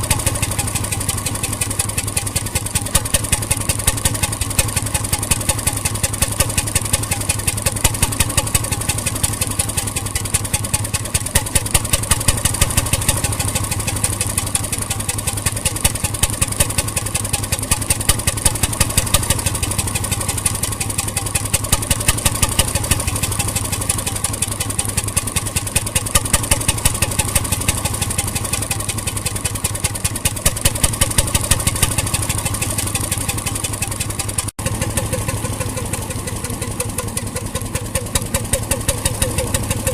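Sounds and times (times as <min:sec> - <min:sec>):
marine engine knocking: 0:00.0 - 0:39.9.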